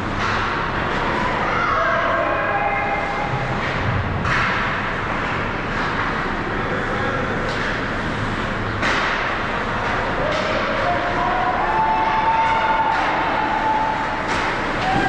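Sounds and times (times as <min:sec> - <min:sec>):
skating and crowd noise: 0:00.0 - 0:15.0.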